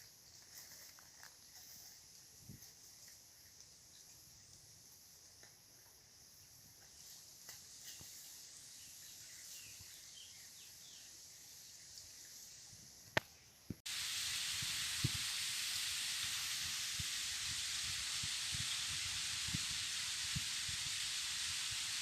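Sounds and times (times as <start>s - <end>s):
steady hiss of natural noise: 0.0s - 22.0s.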